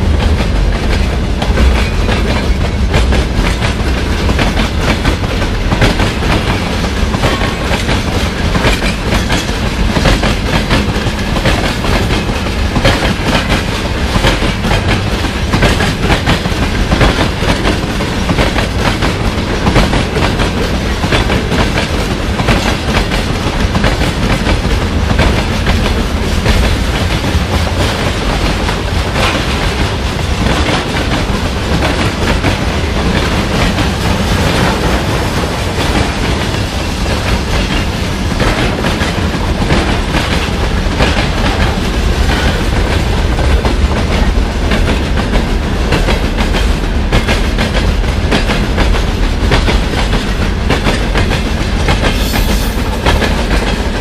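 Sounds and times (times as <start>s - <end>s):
train wheels clattering over rail joints: 0.0s - 54.0s.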